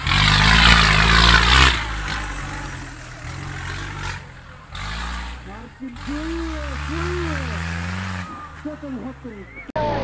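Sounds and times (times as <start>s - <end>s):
tractor engine revving: 0.0s - 10.0s.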